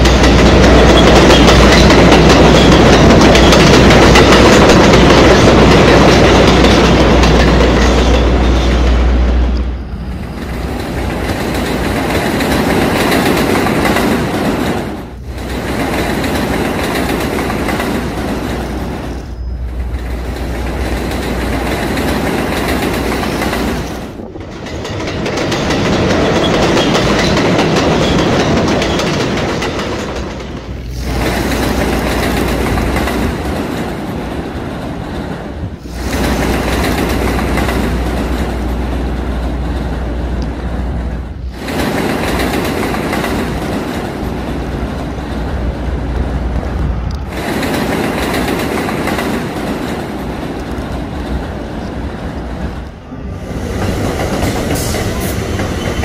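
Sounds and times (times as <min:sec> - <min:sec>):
subway train rumble and clatter: 0:00.0 - 0:56.0.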